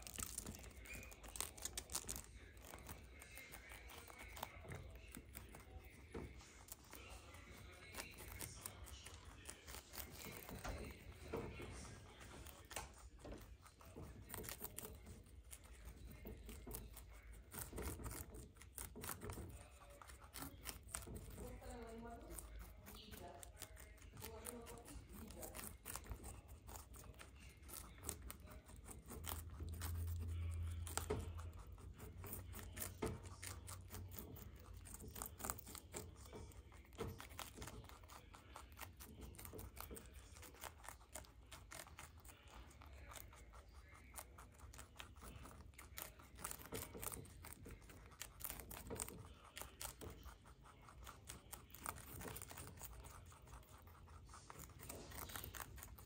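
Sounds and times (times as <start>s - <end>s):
rabbits crunching leaves: 0.0s - 56.0s.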